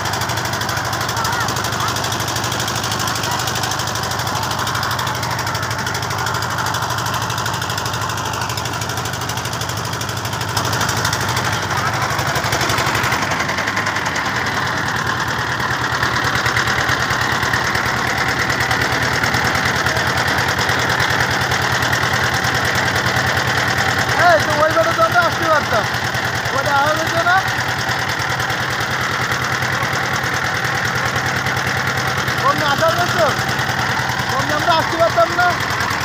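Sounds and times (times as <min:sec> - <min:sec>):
motor boat engine knocking: 0:00.0 - 0:36.0.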